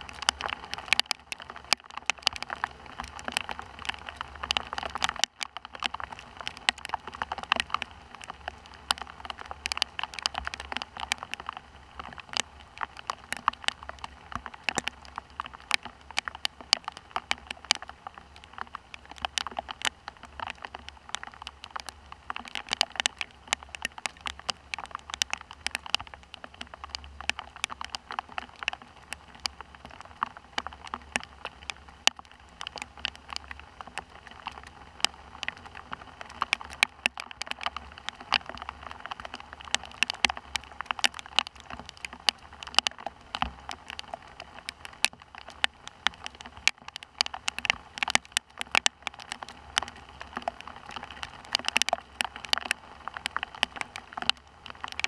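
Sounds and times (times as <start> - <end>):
rain drops on hard surface: 0.0 - 55.0.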